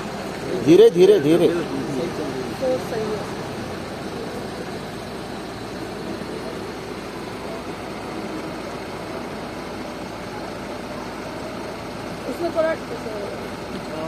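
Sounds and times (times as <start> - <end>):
fuel pump running: 0.0 - 14.0.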